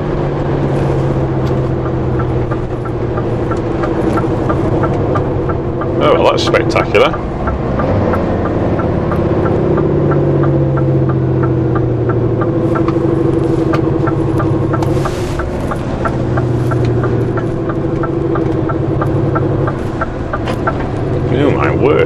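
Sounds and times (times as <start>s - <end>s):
diesel lorry engine running: 0.0s - 22.0s
indicator ticking: 0.4s - 22.0s.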